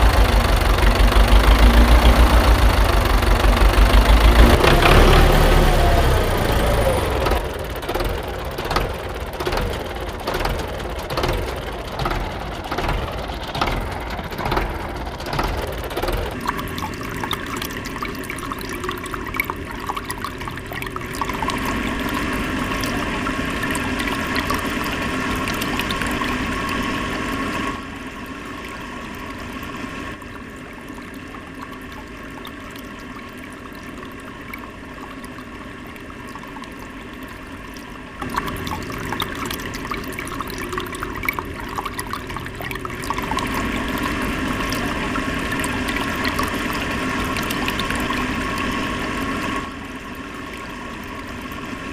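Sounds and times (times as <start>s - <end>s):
water spraying and splashing: 0.0s - 30.2s, 36.1s - 51.9s
small water pump running: 0.0s - 51.9s.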